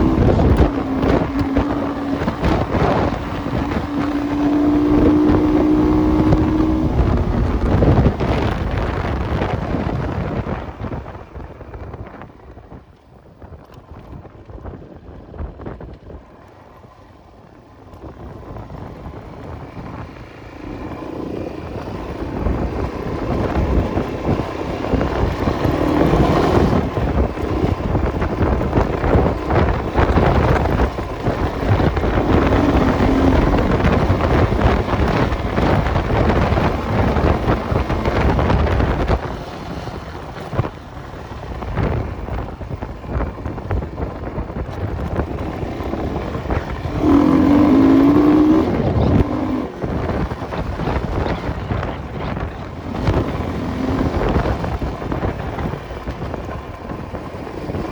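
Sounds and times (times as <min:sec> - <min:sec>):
motorcycle engine under load: 0:00.0 - 0:57.9
wind buffeting microphone: 0:00.0 - 0:57.9.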